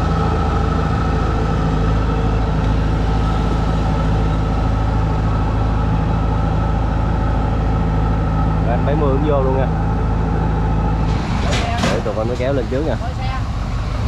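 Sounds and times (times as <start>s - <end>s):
combine harvester diesel engine: 0.0s - 14.0s
high whine: 0.0s - 14.0s.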